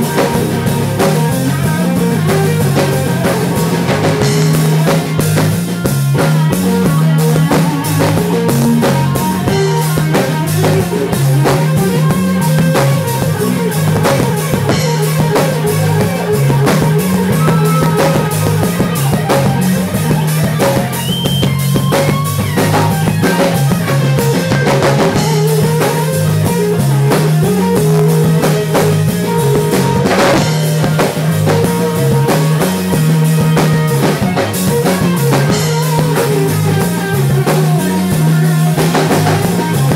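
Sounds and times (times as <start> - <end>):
drum kit: 0.0 - 39.9
electric bass riff: 0.0 - 39.9
electric guitar lead: 0.0 - 39.9.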